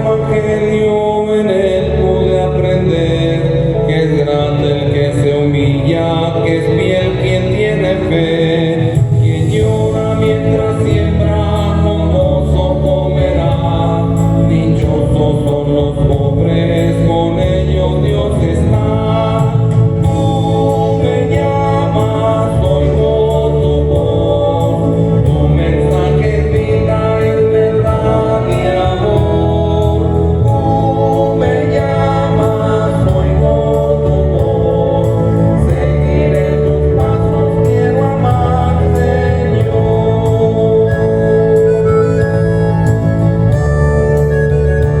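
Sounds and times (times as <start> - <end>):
choir singing a hymn: 0.0 - 44.2
keyboard organ chords: 0.0 - 45.0.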